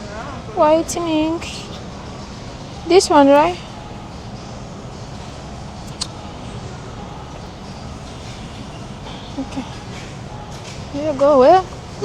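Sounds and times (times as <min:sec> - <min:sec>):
supermarket background rumble: 0:00.0 - 0:12.0.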